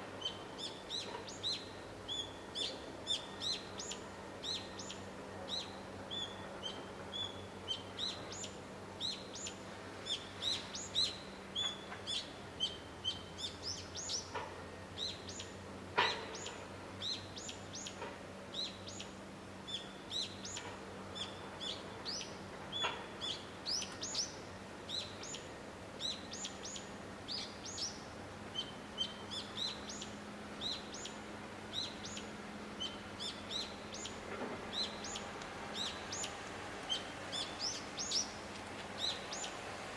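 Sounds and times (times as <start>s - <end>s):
small birds chirping: 0.2s - 14.4s, 15.0s - 39.6s.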